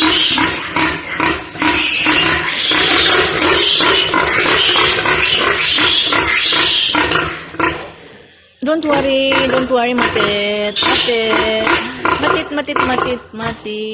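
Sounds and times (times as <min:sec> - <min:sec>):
pig squealing: 0:00.0 - 0:13.2.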